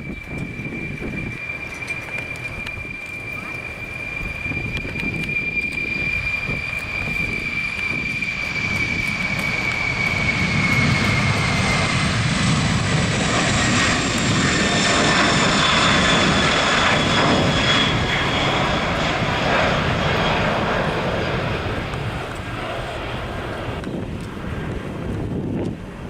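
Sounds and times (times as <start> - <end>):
jet engine whine and roar: 0.0 - 26.0.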